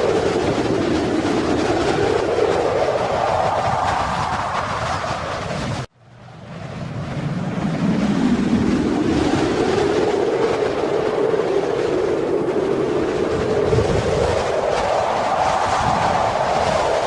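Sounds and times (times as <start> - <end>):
strong wind howling: 0.0 - 17.0.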